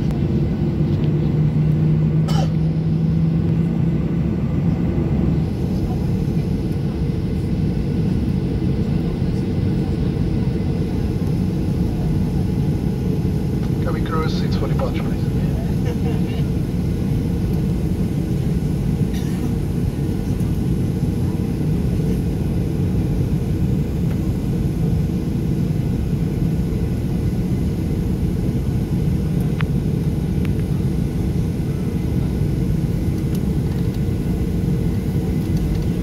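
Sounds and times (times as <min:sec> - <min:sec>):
jet engines rumbling in cabin: 0:00.0 - 0:36.0.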